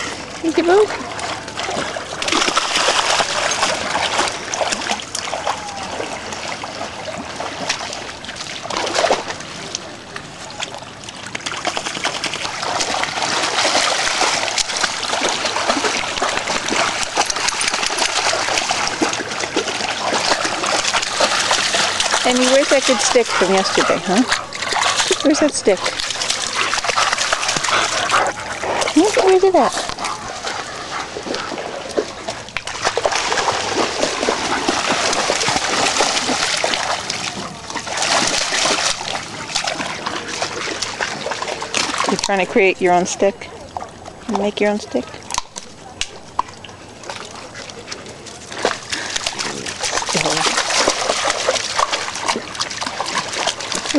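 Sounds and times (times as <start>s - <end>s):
dogs splashing through shallow water: 0.0s - 53.9s.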